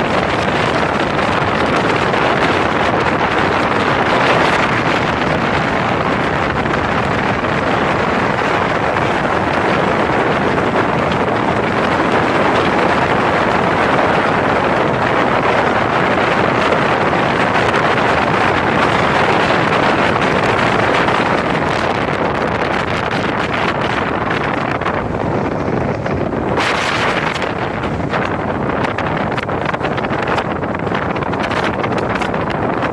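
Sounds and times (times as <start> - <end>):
speedboat engine and rushing water: 0.0 - 32.9
wind buffeting microphone: 0.0 - 32.9.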